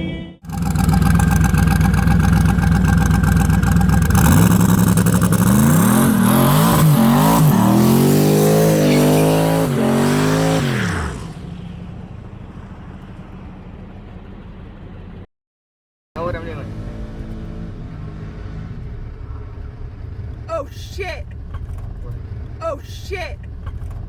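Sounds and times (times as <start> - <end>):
car engine revving: 0.4 - 15.3, 16.2 - 24.0.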